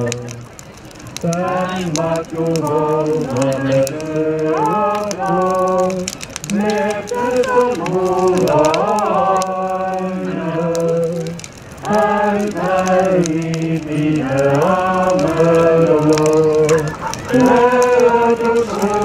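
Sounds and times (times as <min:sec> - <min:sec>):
people singing together: 0:01.2 - 0:19.0.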